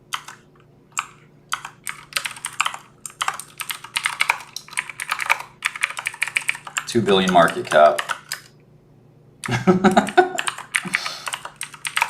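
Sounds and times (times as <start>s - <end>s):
typing on computer keyboard: 0.1s - 0.4s, 1.0s - 8.5s, 9.4s - 12.0s.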